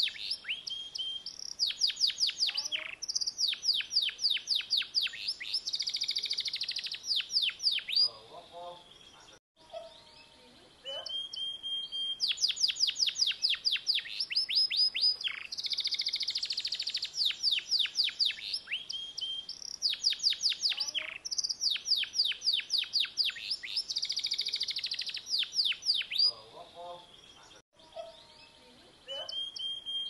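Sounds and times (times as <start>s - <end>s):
canary singing with trills: 0.0s - 30.0s.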